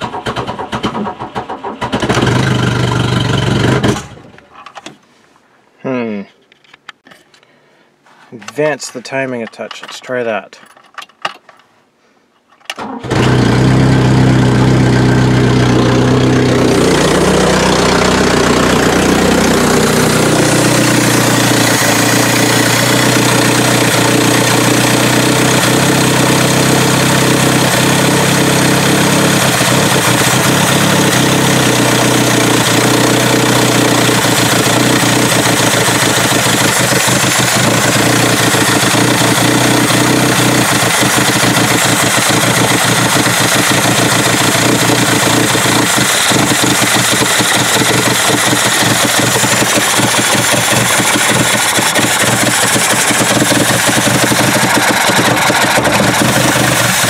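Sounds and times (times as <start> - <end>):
car engine starting and idling: 0.0 - 4.6, 12.7 - 57.0.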